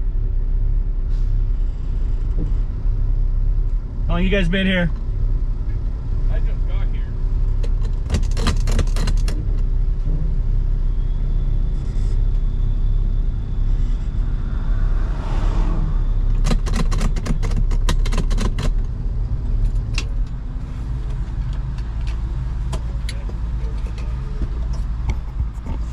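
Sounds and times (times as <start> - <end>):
car engine idling: 0.0 - 14.8, 15.9 - 25.9.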